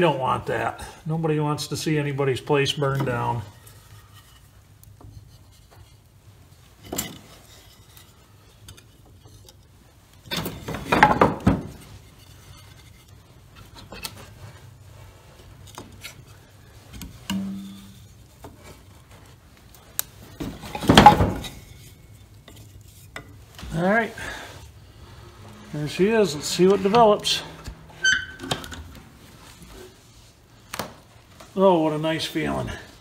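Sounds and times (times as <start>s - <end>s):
wood clattering in a stove: 2.8s - 30.0s.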